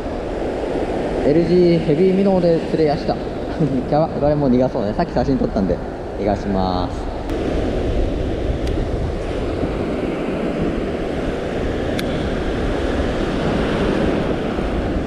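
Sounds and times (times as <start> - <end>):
sea waves washing: 0.0 - 15.0
wind noise on microphone: 0.0 - 15.0.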